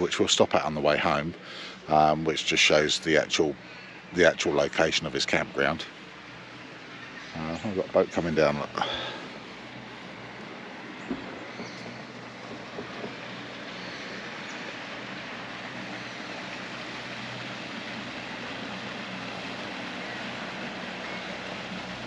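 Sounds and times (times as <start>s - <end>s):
small boat motor running: 0.0s - 22.0s.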